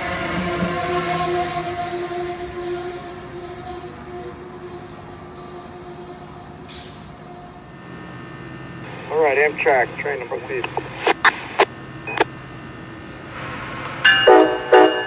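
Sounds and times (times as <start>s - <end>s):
passenger train rumble: 0.0s - 15.0s.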